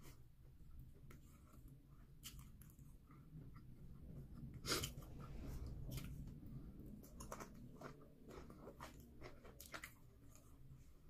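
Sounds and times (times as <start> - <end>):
person chewing and smacking: 0.9 - 11.0.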